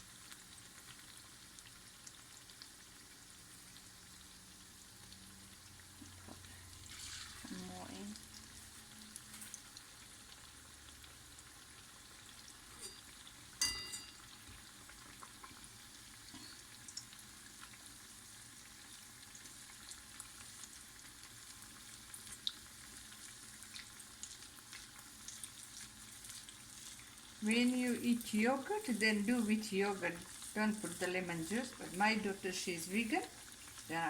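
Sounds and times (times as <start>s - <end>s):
oil crackles and pops: 0.0s - 13.5s, 14.3s - 34.0s
food deep-frying in oil: 0.0s - 34.0s.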